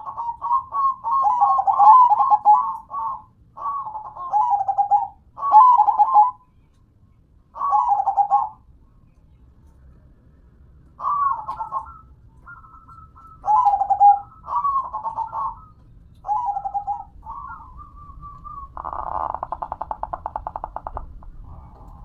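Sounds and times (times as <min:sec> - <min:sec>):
dove cooing: 0:00.0 - 0:06.4, 0:07.6 - 0:08.6, 0:11.0 - 0:22.0.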